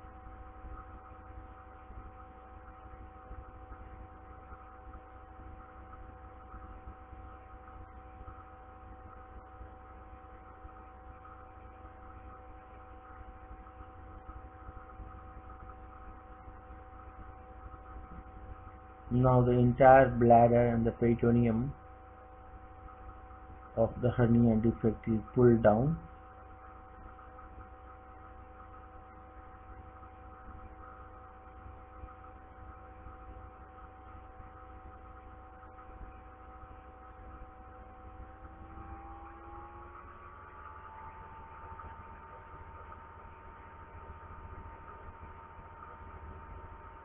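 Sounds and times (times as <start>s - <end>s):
electrical hum: 0.0s - 47.0s
faint steady tones: 0.0s - 47.0s.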